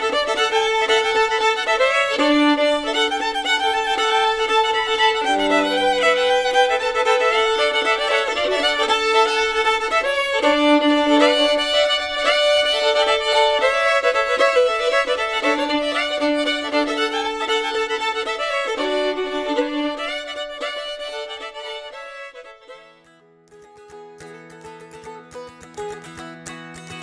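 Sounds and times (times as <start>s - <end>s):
slow fiddle melody: 0.0s - 26.2s.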